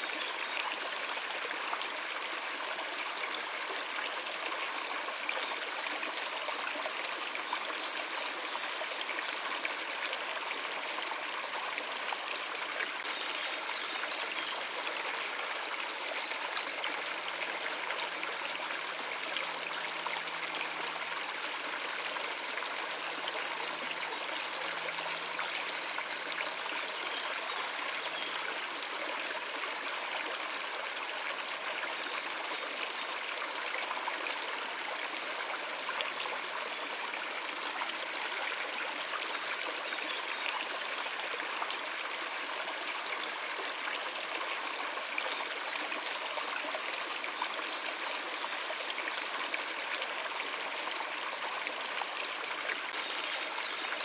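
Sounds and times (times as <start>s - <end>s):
water running over rocks: 0.0s - 54.0s.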